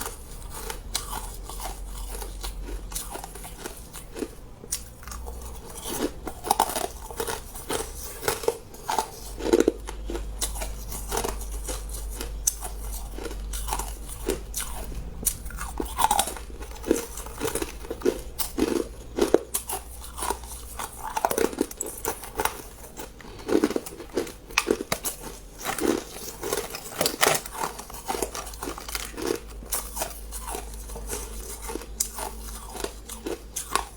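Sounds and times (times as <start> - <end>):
person chewing hard ice: 0.0 - 33.9.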